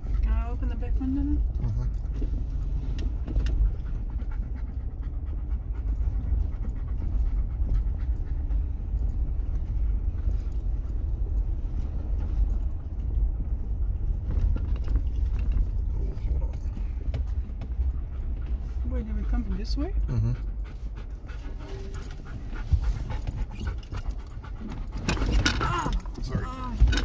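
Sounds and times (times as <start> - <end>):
rattles and knocks: 0.0 - 20.0, 20.6 - 27.0
dog panting: 0.0 - 27.0
vehicle rumbling on dirt trail: 0.0 - 27.0.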